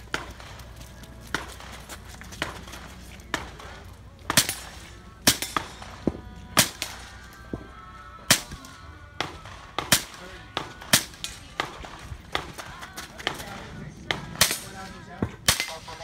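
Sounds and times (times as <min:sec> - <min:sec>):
rifle shots: 0:01.3 - 0:07.6, 0:08.3 - 0:12.6, 0:13.3 - 0:16.0.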